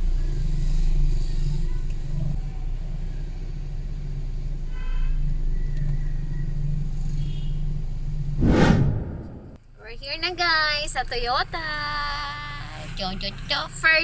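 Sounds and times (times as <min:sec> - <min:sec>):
road noise inside car: 0:00.0 - 0:08.4, 0:09.9 - 0:14.0.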